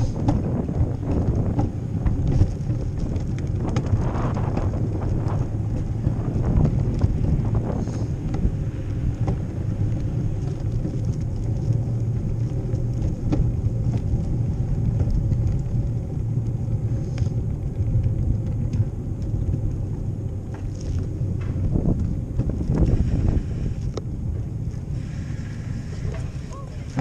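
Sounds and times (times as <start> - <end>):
bicycle rolling over paving stones: 0.0 - 27.0
wind buffeting microphone: 0.0 - 27.0.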